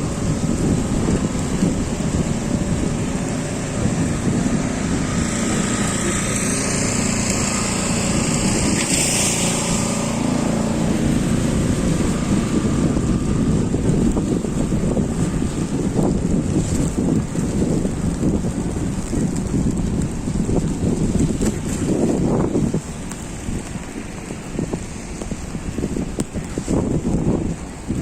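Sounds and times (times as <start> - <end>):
city traffic: 0.0 - 28.0
wind buffeting microphone: 0.0 - 28.0.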